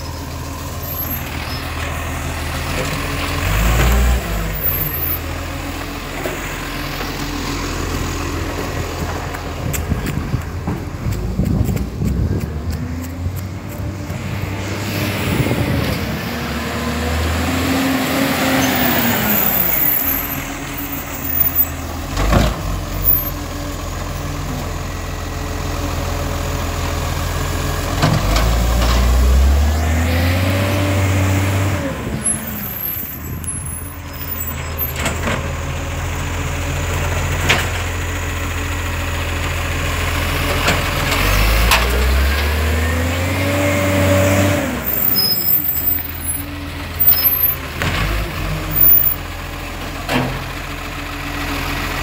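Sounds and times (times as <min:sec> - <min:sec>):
garbage truck engine revving: 0:00.6 - 0:38.3, 0:39.8 - 0:52.0.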